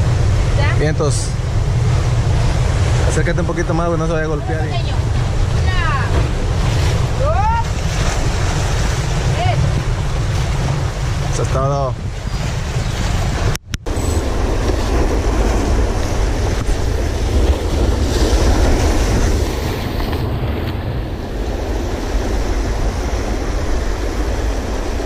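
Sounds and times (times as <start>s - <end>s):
surf breaking over rocks: 0.0s - 25.0s
wind rumbling on microphone: 0.0s - 25.0s.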